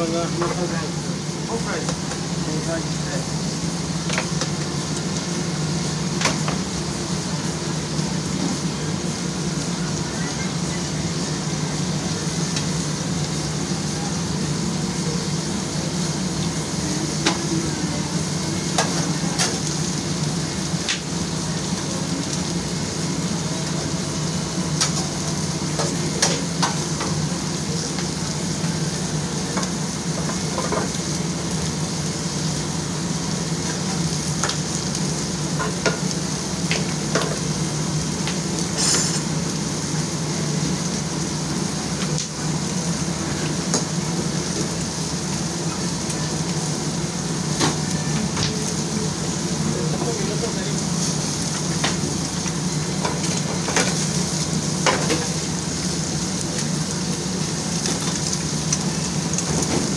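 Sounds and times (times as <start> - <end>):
food sizzling: 0.0 - 59.9.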